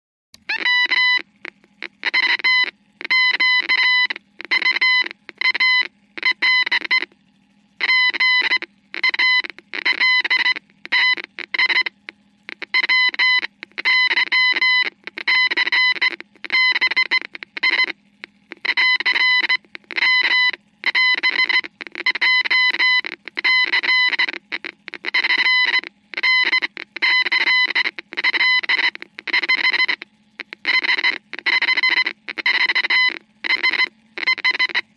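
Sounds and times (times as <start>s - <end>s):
morse code beeping: 0.4s - 7.1s, 7.8s - 34.9s
faint low hum: 0.4s - 34.9s.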